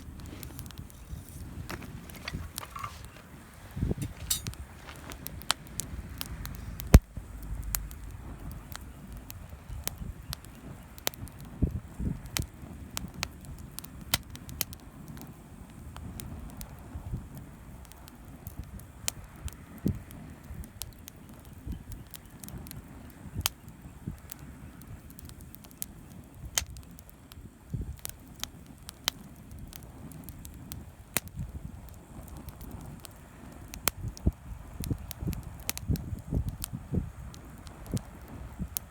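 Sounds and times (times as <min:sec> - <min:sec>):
campfire crackling: 0:00.0 - 0:38.9
fire pops and snaps: 0:00.0 - 0:38.9
low rumble of flames: 0:00.0 - 0:38.9.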